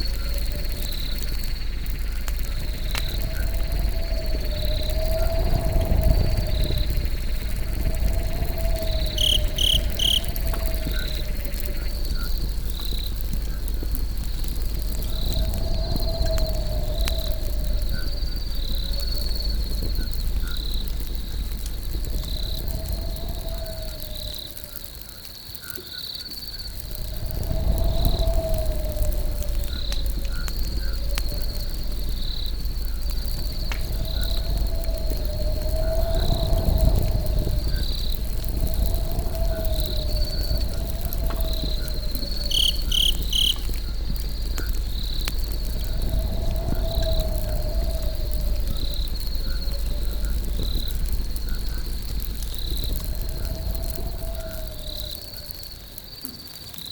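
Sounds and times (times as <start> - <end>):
campfire crackling and popping: 0.0 - 56.9
crickets chirping: 0.0 - 56.9.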